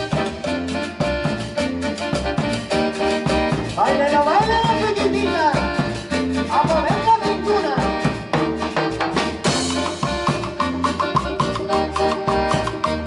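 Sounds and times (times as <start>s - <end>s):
latin dance band playing: 0.0s - 13.0s.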